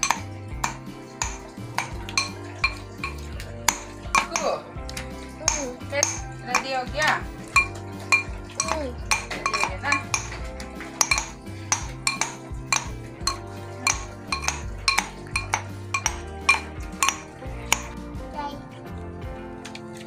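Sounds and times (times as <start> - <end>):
spoon clinking in steel cup: 0.0 - 4.7, 5.4 - 17.9
background music with low notes: 0.0 - 20.0.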